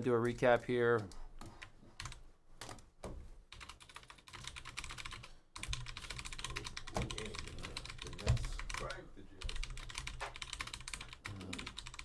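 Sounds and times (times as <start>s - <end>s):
rapid keyboard typing: 0.2s - 2.9s, 3.5s - 12.0s.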